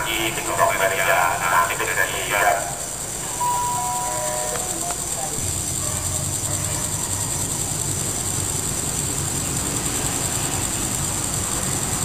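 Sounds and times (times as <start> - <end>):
diesel engine rumbling: 0.0 - 12.0
high-pitched whine: 0.0 - 12.0.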